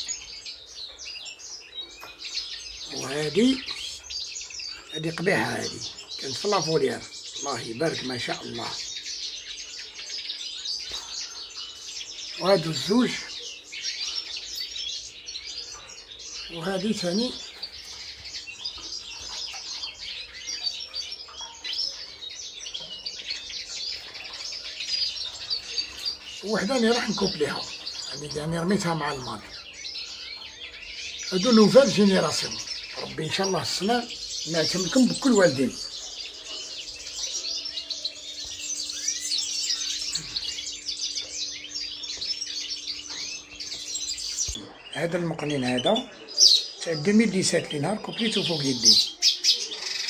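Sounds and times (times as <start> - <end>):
finches twittering: 0.0 - 50.0.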